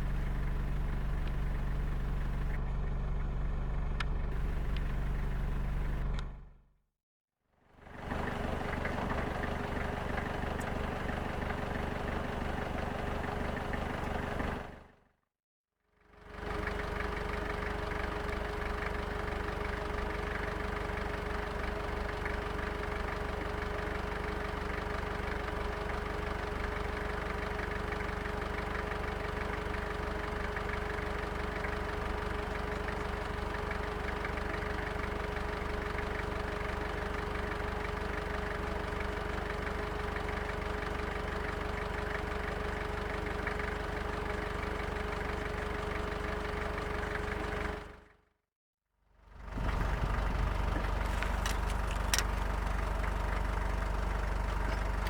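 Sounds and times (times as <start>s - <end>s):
vehicle engine idling: 0.0s - 6.6s, 7.8s - 15.0s, 16.1s - 48.2s, 49.2s - 55.0s.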